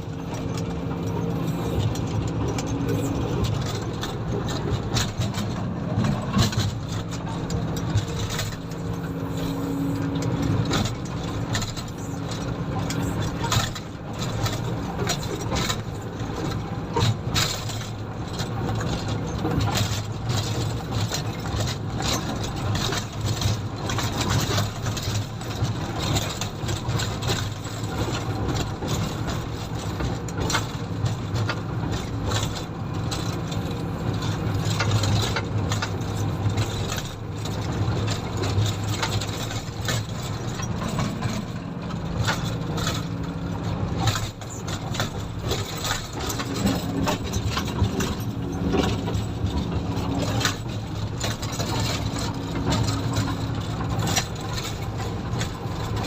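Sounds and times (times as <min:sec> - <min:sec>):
diesel engine running: 0:00.0 - 0:56.0
short knocks and rattles: 0:10.1 - 0:56.0.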